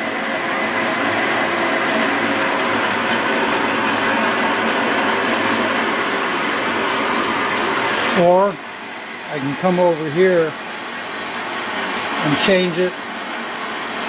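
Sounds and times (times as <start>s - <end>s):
metal lathe running: 0.0s - 14.0s.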